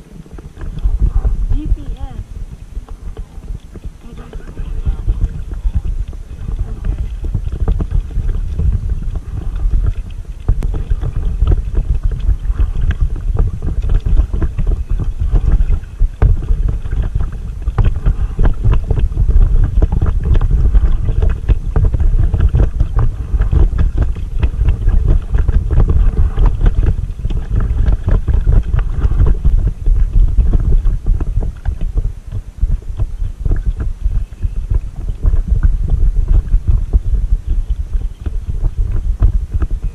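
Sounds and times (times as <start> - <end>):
paddle strokes splashing: 0.0 - 39.9
wind buffeting microphone: 0.0 - 39.9.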